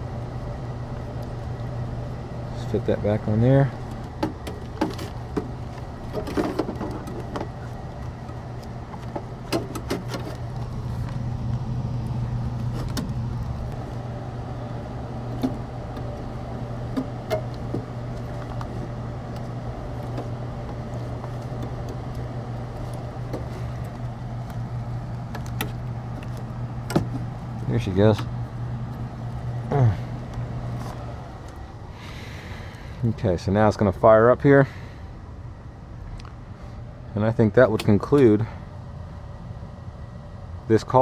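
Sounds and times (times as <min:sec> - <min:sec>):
gas furnace humming: 0:00.0 - 0:41.0.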